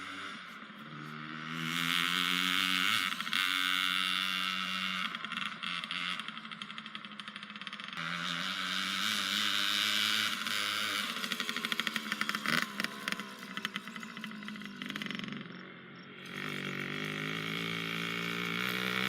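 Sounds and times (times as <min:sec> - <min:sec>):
small vehicle engine revving: 0:00.0 - 0:19.0.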